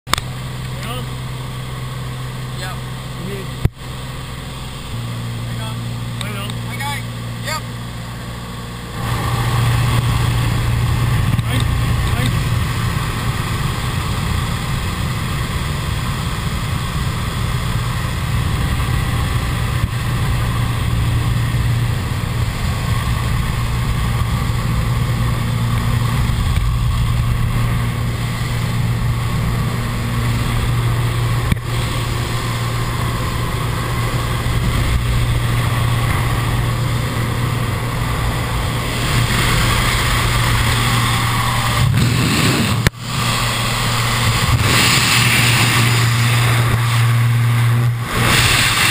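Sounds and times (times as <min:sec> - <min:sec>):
propeller plane engine droning: 0:00.1 - 0:48.9
rush of wind: 0:00.1 - 0:48.9.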